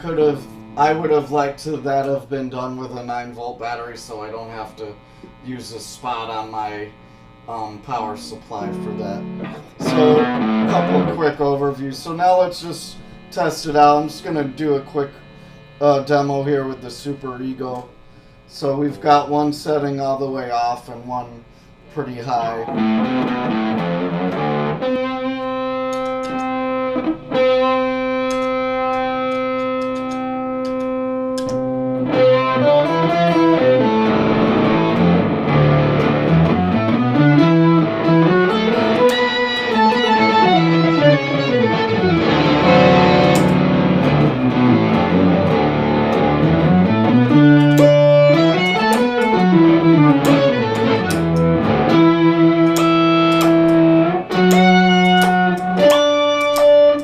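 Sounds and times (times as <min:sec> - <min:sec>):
electric guitar with synth pedal: 0:00.0 - 0:02.3, 0:06.9 - 0:19.0, 0:21.6 - 0:57.0.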